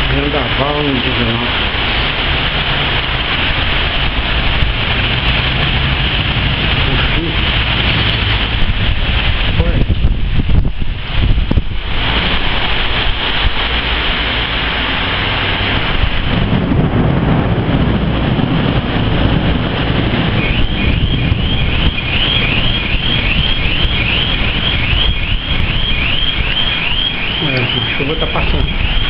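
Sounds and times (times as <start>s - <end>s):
deep rumble: 0.0s - 29.0s
driving rain: 0.0s - 29.0s
gusting wind: 0.0s - 29.0s.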